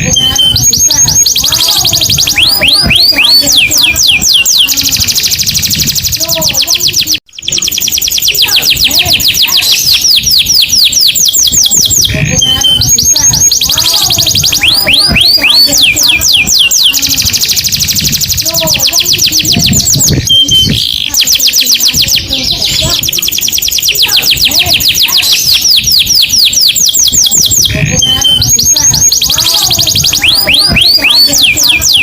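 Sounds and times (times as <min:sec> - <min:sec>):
canary trilling song: 0:00.0 - 0:32.0.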